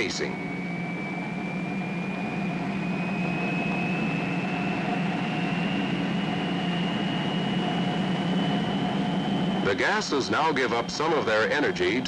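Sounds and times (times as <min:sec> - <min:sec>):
jet engine rumble and whine: 0:00.0 - 0:12.0.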